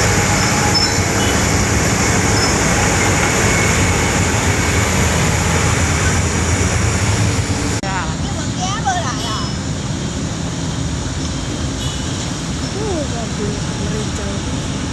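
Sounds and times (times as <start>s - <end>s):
heavy road-works machinery running: 0.0s - 14.9s.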